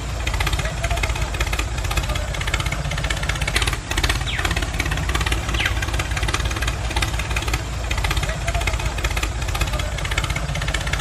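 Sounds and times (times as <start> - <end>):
toy tractor engine chugging: 0.0 - 11.0.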